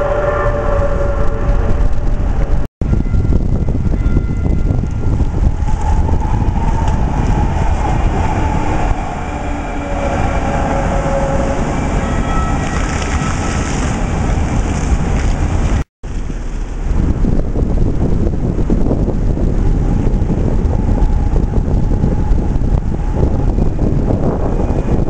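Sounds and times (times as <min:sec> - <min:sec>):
light rail train whine: 0:00.0 - 0:15.1, 0:19.3 - 0:25.0
low rumble: 0:00.0 - 0:25.0.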